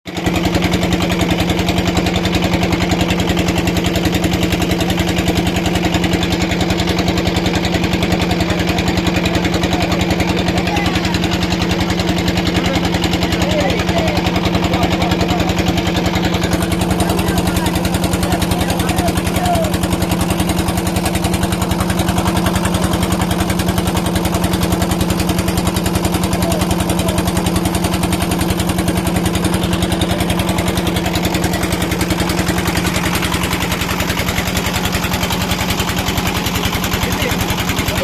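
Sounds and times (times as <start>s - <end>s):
small engine running: 0.1s - 38.0s.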